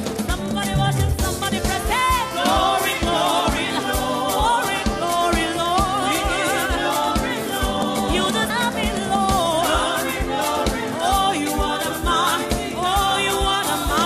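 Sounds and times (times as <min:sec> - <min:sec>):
band with steady drum beat: 0:00.0 - 0:14.0
gospel singing: 0:00.0 - 0:14.0.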